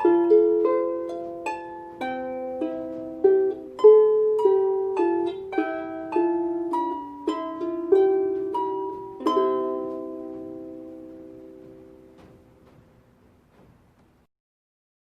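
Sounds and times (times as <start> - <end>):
harp playing slow melody: 0.0 - 12.7.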